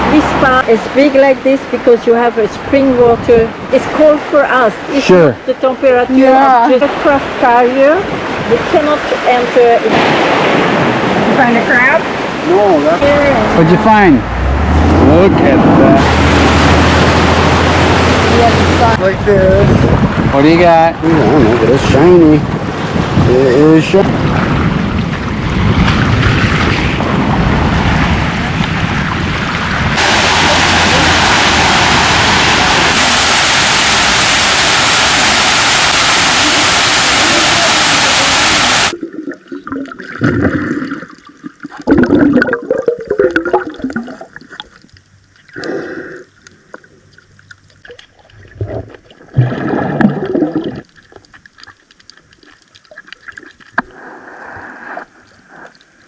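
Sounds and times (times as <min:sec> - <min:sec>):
water rushing: 0:00.0 - 0:45.8, 0:47.4 - 0:56.0
water gurgles and splashes: 0:00.0 - 0:56.0.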